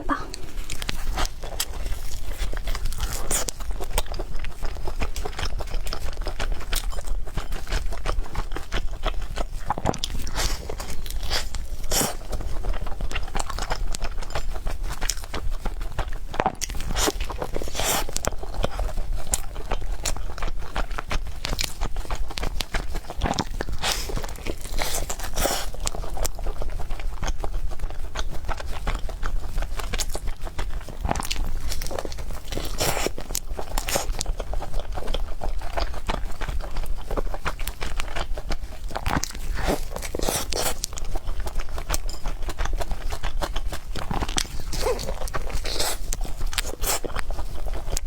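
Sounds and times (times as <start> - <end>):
crunching bites and chewing: 0.4 - 48.0.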